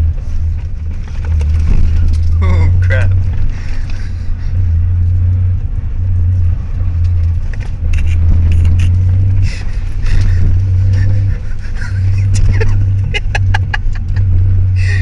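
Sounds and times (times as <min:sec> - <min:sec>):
car engine drone from cabin: 0:00.0 - 0:15.0.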